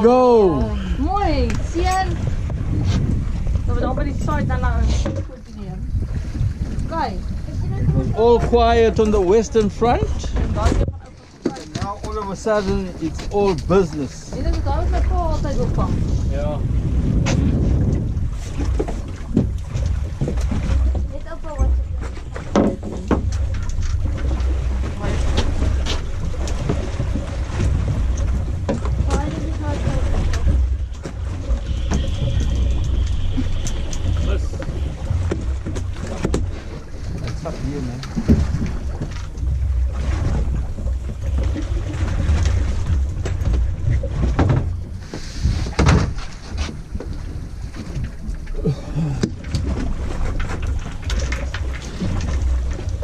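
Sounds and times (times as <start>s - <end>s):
wind on microphone: 0.0s - 11.2s, 12.8s - 53.0s
boat engine rumble: 0.0s - 53.0s.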